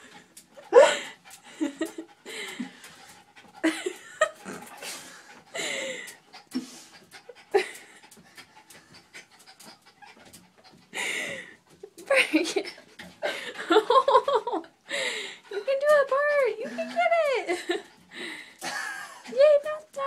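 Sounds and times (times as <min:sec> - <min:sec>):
dog panting hard: 0:00.0 - 0:20.0.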